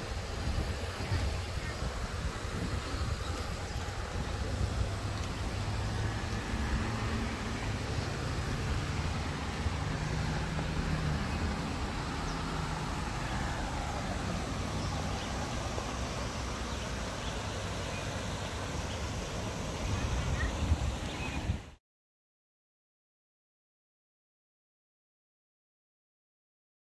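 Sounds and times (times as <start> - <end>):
road traffic rumble: 0.0 - 21.8.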